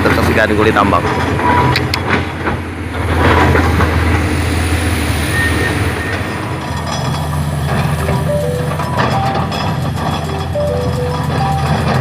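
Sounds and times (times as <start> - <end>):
excavator diesel engine running: 0.0 - 12.0
high metallic squeals: 1.1 - 12.0.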